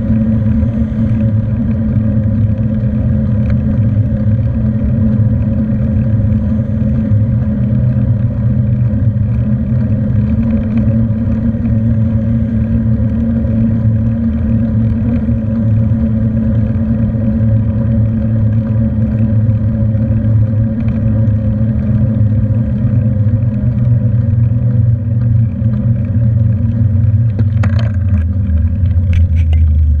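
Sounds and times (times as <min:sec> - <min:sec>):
bicycle wind and road noise: 0:00.0 - 0:30.0.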